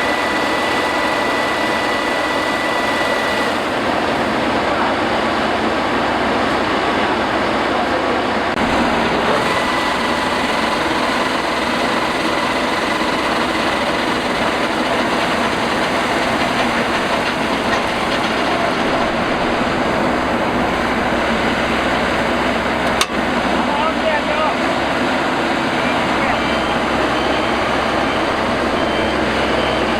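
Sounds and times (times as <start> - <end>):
harvesting machine engine running: 0.0 - 29.9.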